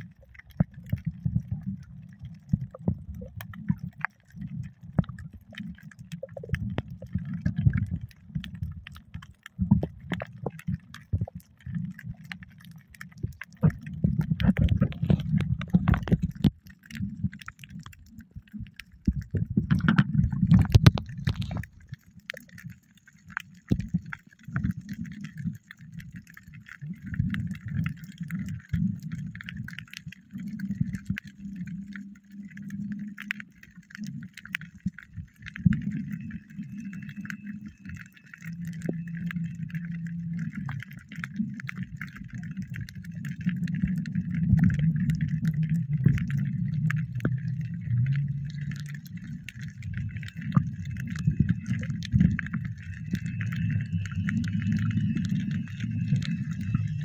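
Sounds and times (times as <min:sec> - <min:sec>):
muffled underwater bubbling: 0:00.0 - 0:57.0
sharp underwater clicks: 0:00.0 - 0:57.0.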